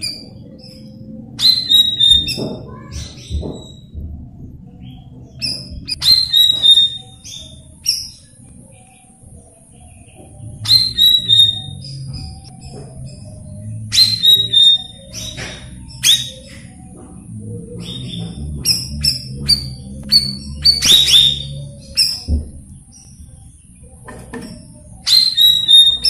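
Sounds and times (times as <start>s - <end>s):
bird chirping and whistling: 0.0s - 4.0s, 4.8s - 8.4s, 10.4s - 26.0s.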